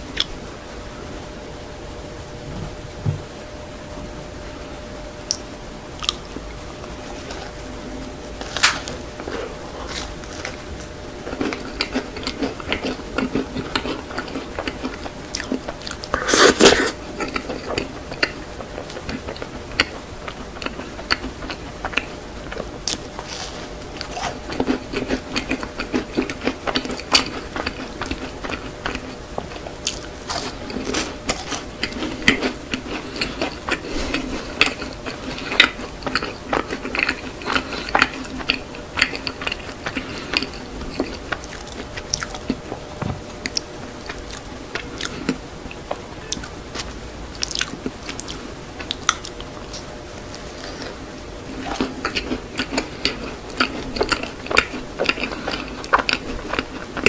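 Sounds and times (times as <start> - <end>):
chewing crisp macaron: 6.0 - 57.0.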